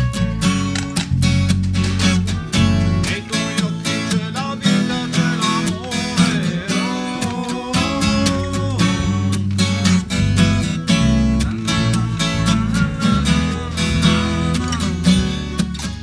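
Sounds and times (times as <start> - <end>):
acoustic guitar strummed hard: 0.0 - 16.0.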